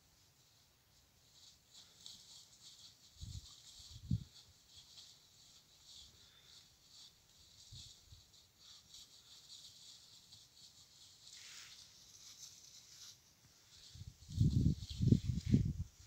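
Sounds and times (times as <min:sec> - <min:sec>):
dry leaves rustling and crackling: 0:01.2 - 0:16.0.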